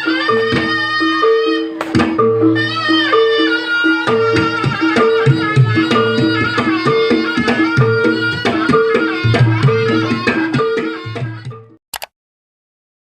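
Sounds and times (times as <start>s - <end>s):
metallophone notes: 0.0s - 11.7s
sustained high melody: 0.0s - 11.7s.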